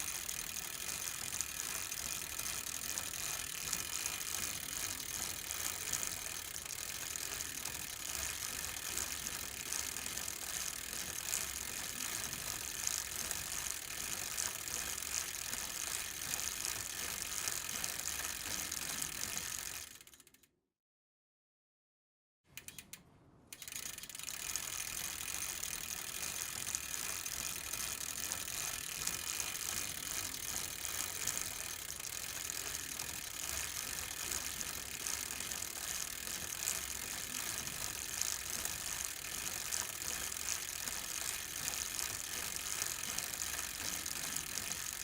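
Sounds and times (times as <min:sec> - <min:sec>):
bicycle chain and gears whirring: 0:00.0 - 0:20.5, 0:22.5 - 0:45.0.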